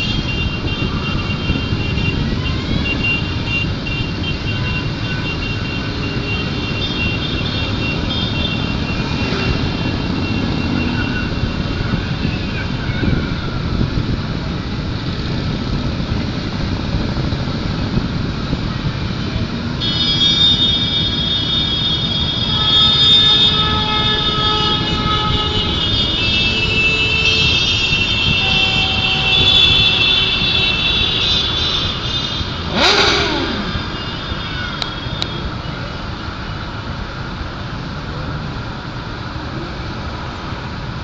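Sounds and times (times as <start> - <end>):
motorcycle revving: 0.0 - 39.3
motorcycle traffic passing: 0.0 - 41.0.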